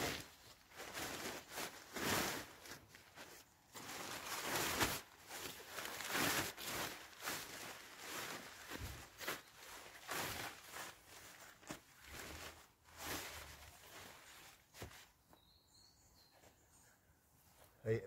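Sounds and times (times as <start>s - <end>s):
tent fabric rustling: 0.0s - 15.2s.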